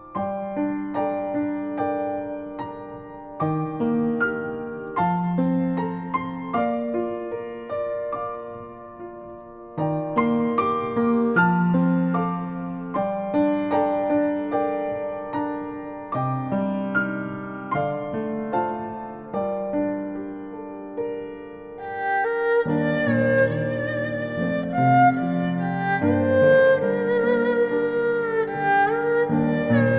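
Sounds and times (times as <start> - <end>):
slow piano music: 0.0 - 29.9.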